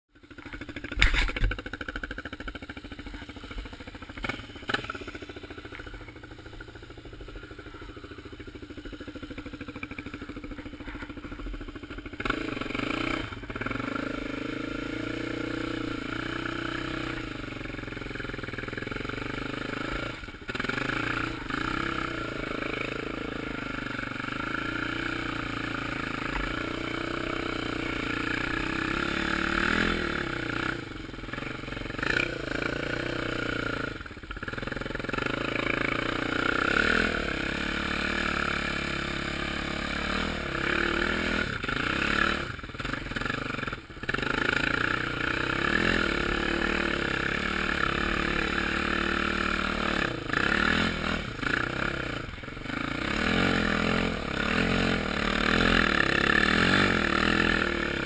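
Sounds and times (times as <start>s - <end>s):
quad bike engine running: 0.1s - 58.0s.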